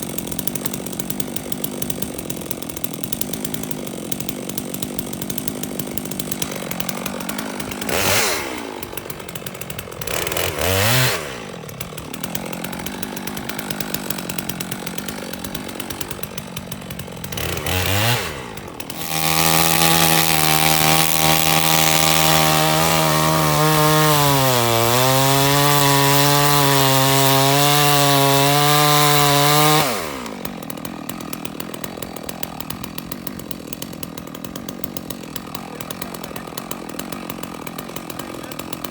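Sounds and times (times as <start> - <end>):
chainsaw cutting at full throttle: 0.0 - 38.9
chainsaw idling and revving: 0.0 - 38.9.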